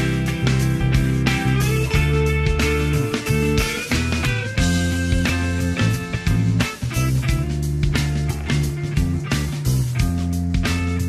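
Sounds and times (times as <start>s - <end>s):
bass line: 0.0s - 11.0s
guitar: 0.0s - 11.0s
steady drum beat: 0.0s - 11.0s.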